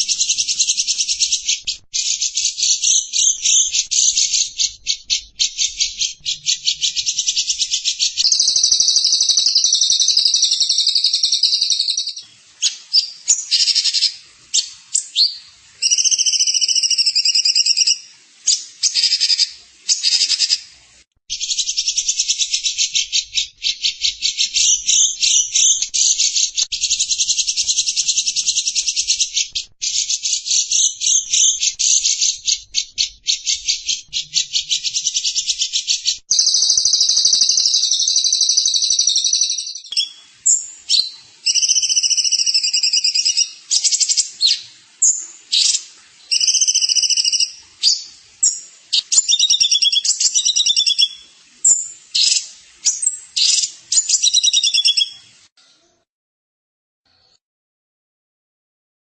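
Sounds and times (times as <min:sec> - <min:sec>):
songbird trilling and chirping: 0:00.0 - 0:20.6, 0:21.3 - 0:55.2.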